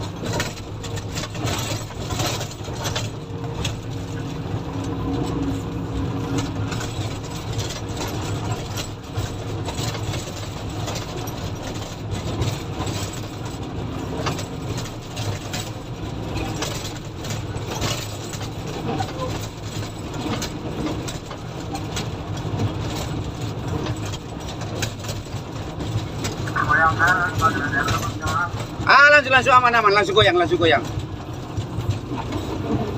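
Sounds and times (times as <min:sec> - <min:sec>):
diesel engine running: 0:00.0 - 0:32.9
knocks and rattles: 0:00.0 - 0:32.9.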